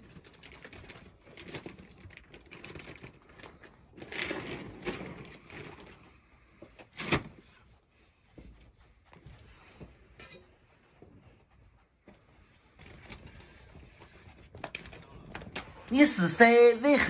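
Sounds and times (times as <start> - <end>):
cloth rustling: 0.0 - 17.0.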